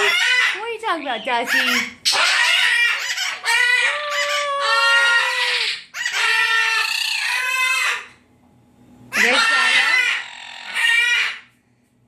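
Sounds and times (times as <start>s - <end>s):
parrot calling loudly: 0.0s - 8.2s, 9.1s - 11.6s.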